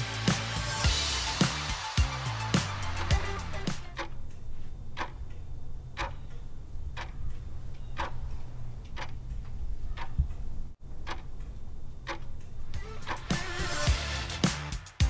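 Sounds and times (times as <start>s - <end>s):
clock ticking: 1.8s - 14.0s.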